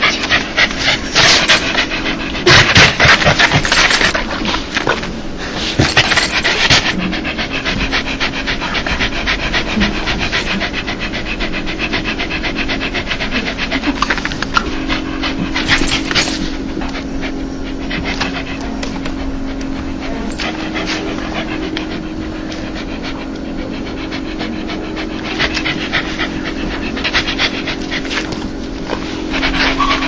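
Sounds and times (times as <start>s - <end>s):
dog panting: 0.0s - 30.0s.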